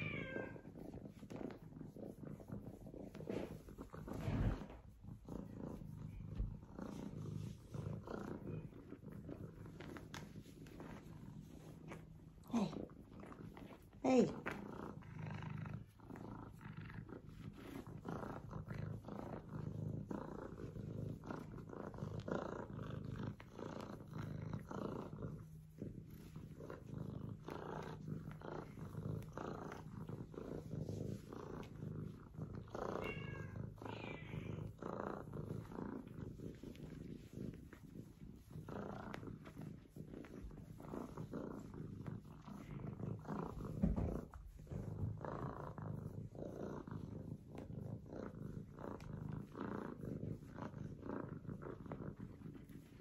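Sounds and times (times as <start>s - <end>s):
kitten purring: 0.0s - 53.0s.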